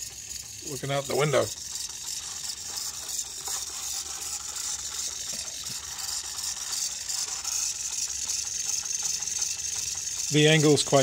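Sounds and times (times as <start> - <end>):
small motor turning: 0.0 - 11.0.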